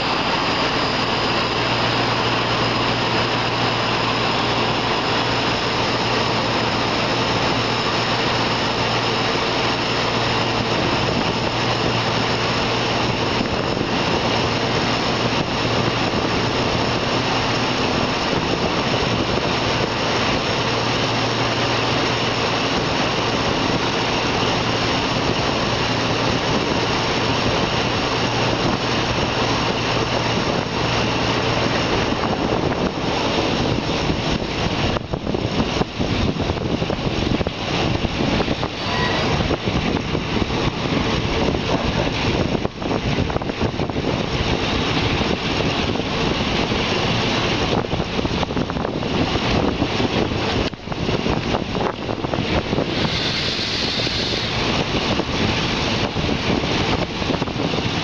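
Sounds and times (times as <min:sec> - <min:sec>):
low engine hum: 0:00.0 - 0:58.0
train running on rails: 0:00.0 - 0:58.0
wind on microphone: 0:00.0 - 0:58.0.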